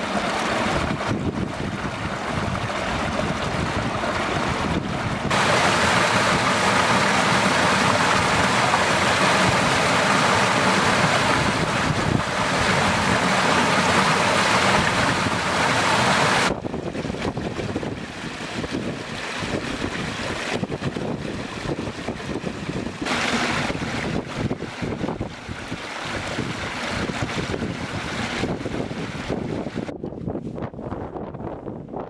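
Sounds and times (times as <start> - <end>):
small waterfall: 0.0 - 29.9
stream rushing over rocks: 0.0 - 29.9.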